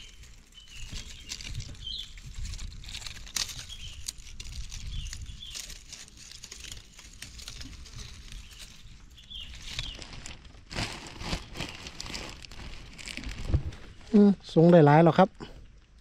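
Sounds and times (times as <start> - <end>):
dry leaves and twigs rustling: 0.0 - 15.3.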